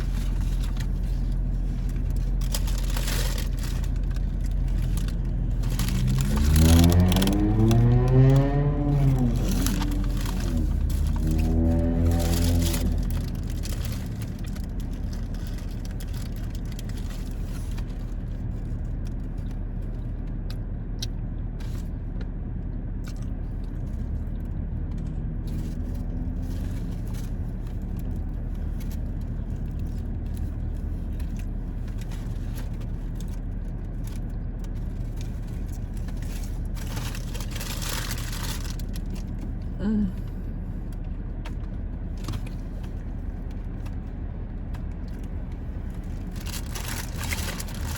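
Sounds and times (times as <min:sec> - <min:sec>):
rustling and handling noises: 0:00.0 - 0:20.0, 0:25.4 - 0:39.7, 0:41.0 - 0:47.9
car engine idling: 0:00.0 - 0:47.9.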